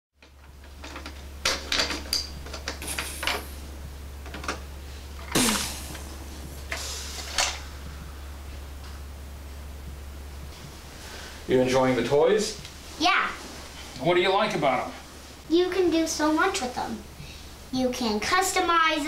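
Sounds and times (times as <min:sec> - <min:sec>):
low hum: 0:00.3 - 0:17.7.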